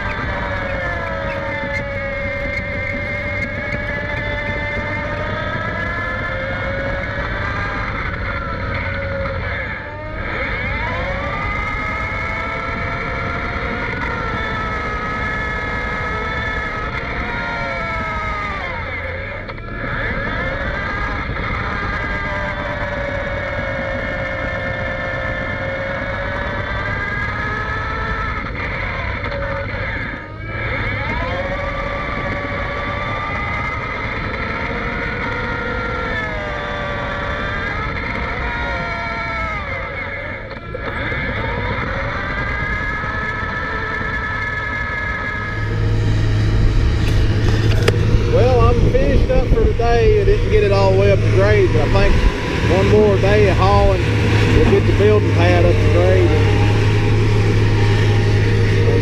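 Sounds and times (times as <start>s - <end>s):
bulldozer engine whine: 0.0s - 59.0s.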